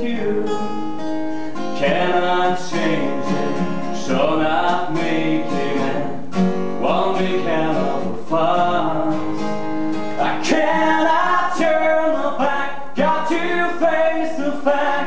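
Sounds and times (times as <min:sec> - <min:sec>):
acoustic guitar: 0:00.0 - 0:15.0
person singing a slow ballad: 0:00.0 - 0:15.0.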